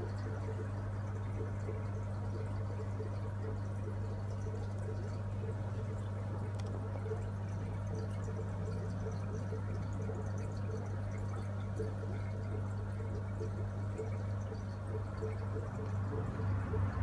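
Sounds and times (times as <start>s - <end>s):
aquarium water bubbling: 0.0s - 17.0s.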